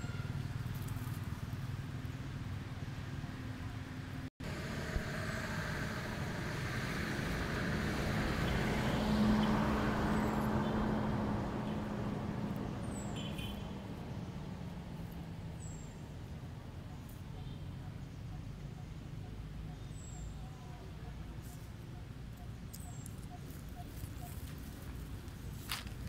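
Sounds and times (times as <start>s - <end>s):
vehicle passing on road: 0.0s - 26.0s.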